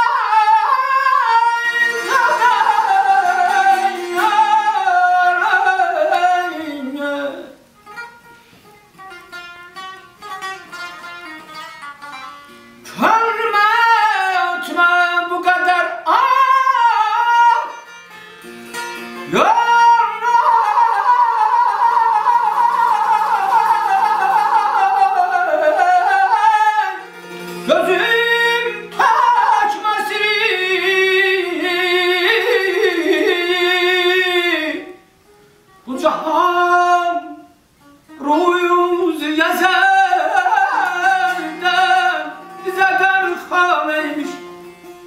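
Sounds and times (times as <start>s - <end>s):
man singing ornamented phrases: 0.0s - 7.8s, 12.8s - 18.0s, 19.2s - 35.2s, 35.8s - 44.7s
plucked long-necked lute: 0.0s - 45.0s.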